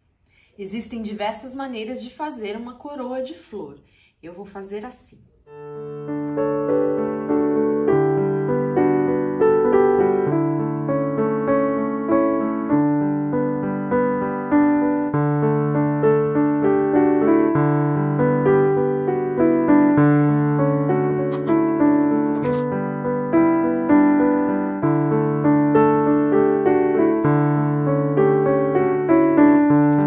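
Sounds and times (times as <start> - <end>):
gentle piano music: 5.5 - 30.0.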